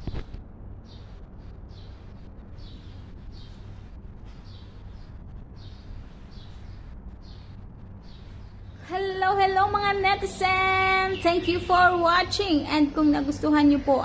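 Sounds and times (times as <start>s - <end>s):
low background hum: 0.0s - 14.0s
bird chirping: 0.8s - 14.0s.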